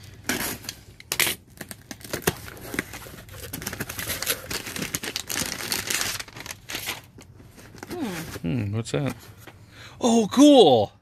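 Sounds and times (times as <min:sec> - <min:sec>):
wrapping crinkling and rustling: 0:00.0 - 0:09.5.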